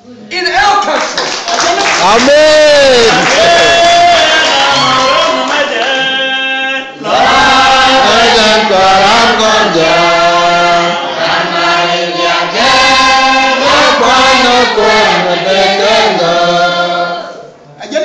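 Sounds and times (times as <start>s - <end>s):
voices chanting: 2.9s - 17.5s.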